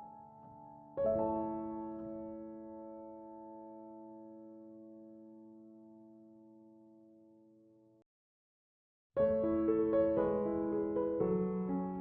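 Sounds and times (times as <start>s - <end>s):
soft piano melody: 0.0s - 8.0s, 9.2s - 12.0s.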